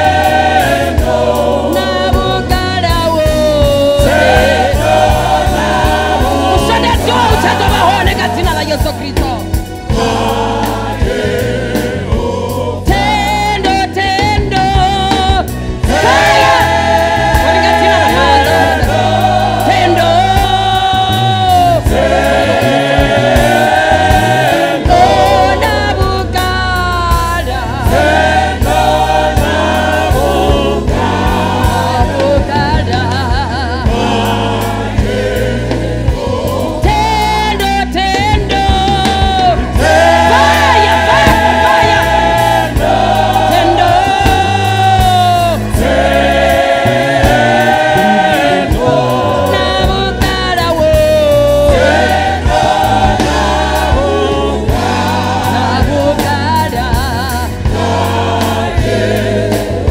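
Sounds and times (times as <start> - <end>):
choir singing gospel: 0.0 - 59.9
low bass notes: 0.0 - 59.9.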